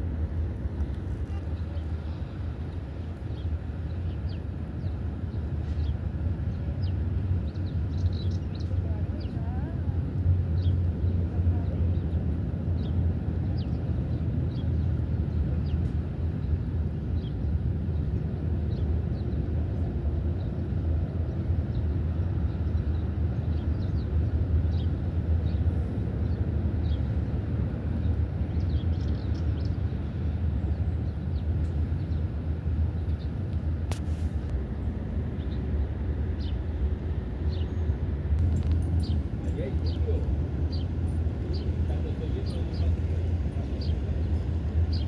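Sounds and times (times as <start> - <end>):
steady low rumble: 0.0 - 45.0.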